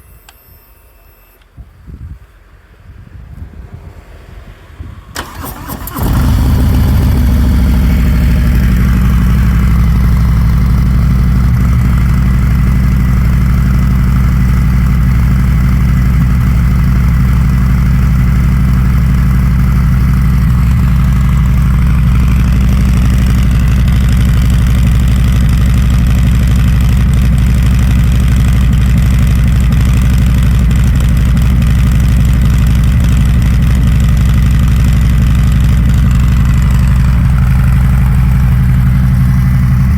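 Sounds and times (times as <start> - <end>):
motorcycle engine starting and idling: 5.1 - 39.9.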